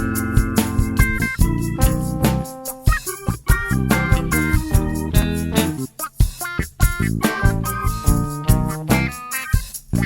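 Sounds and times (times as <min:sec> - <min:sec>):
upbeat funk music with guitar: 0:00.0 - 0:10.0.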